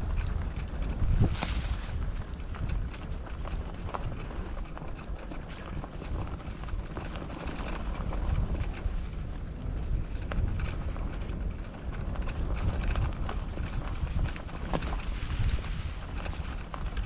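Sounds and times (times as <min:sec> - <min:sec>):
bike tyres crunching dry leaves: 0:00.0 - 0:17.0
wind rumble on microphone: 0:00.0 - 0:17.0.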